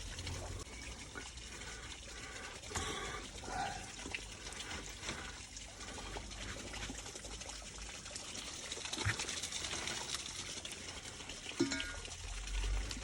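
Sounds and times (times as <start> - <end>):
small clicks and splashes: 0.0 - 13.0
water trickling: 0.0 - 13.0.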